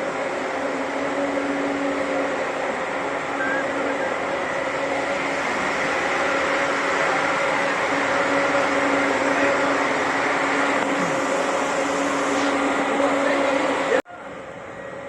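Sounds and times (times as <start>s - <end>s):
coach engine humming: 0.0s - 15.0s.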